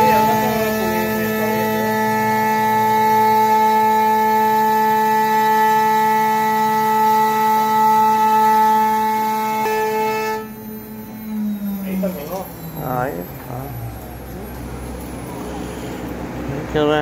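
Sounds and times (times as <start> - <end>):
router spindle whining: 0.0 - 16.5.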